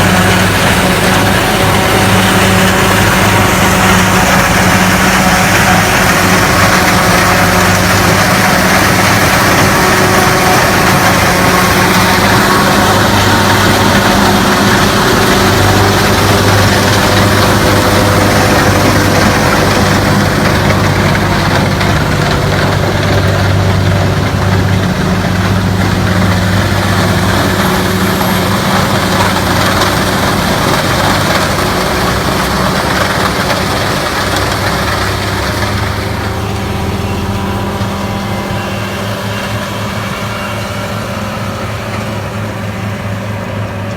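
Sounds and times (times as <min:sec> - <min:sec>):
harvester engine humming: 0:00.0 - 0:43.9.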